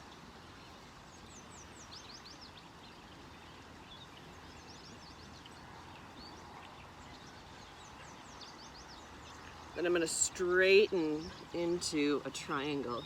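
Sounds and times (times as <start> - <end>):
creek water rushing: 0.0 - 13.0
songbirds chirping: 0.0 - 13.0.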